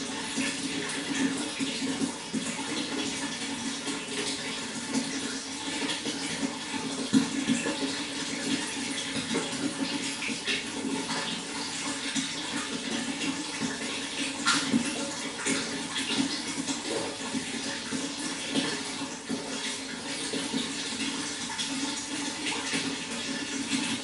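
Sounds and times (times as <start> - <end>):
small water splashes: 0.0 - 24.0
water flowing: 0.0 - 24.0.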